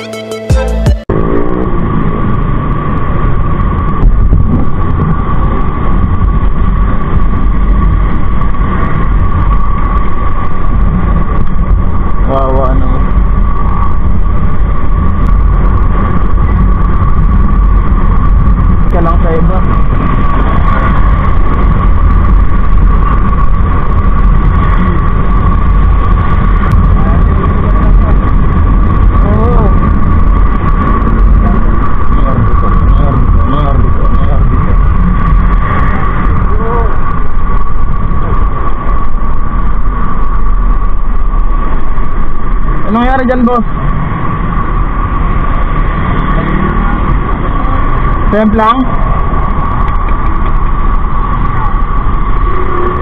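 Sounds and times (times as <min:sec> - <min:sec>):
high whine: 0:00.0 - 0:53.0
motorcycle running in traffic: 0:01.0 - 0:53.0
wind and engine rumble: 0:01.0 - 0:53.0.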